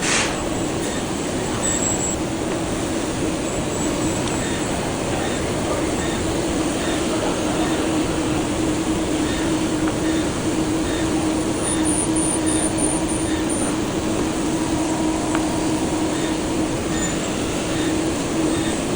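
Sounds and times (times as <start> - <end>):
machine mechanical hum: 0.0 - 18.9.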